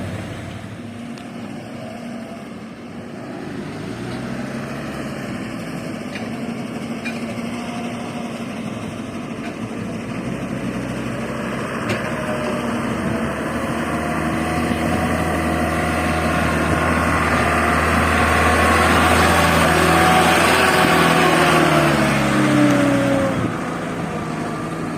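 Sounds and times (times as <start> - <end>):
heavy diesel engine running: 0.0 - 24.9.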